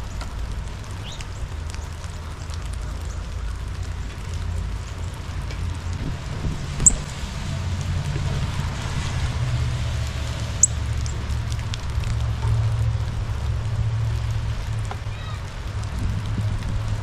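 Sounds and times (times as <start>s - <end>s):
rain falling: 0.0s - 17.0s
low rumble: 2.6s - 17.0s.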